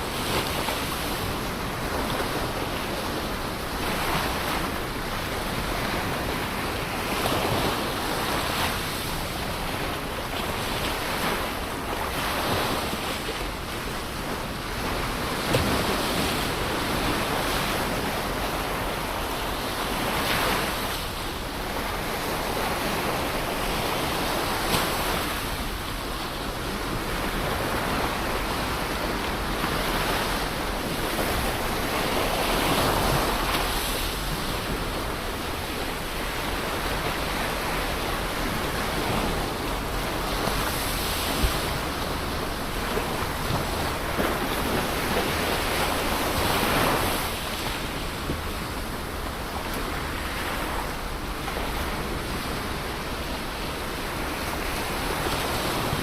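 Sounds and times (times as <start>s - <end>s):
ocean waves breaking on shore: 0.0s - 56.0s
wind on microphone: 0.0s - 56.0s.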